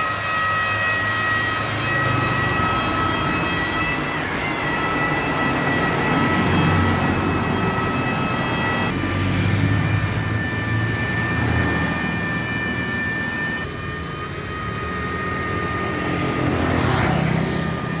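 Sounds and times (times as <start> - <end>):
polishing machine whine: 0.0 - 18.0.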